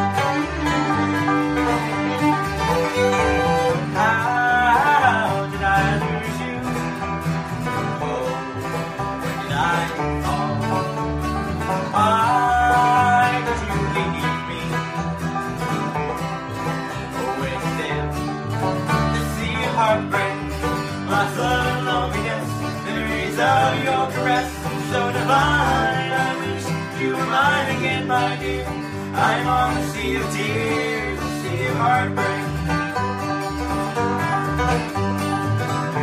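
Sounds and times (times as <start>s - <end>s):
bluegrass string band playing: 0.0s - 36.0s
sliding lead string line: 0.0s - 36.0s.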